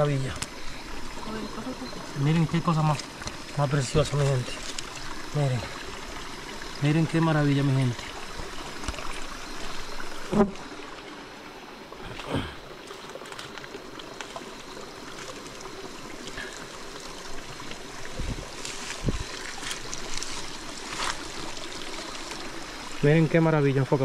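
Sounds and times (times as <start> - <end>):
stream trickling: 0.0 - 24.0.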